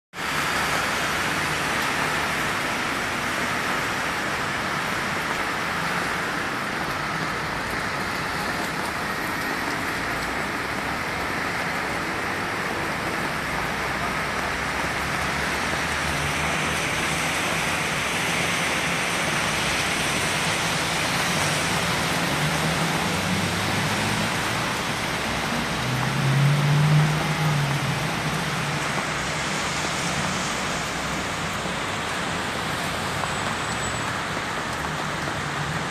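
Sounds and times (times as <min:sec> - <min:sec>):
heavy rain splashing: 0:00.2 - 0:35.9.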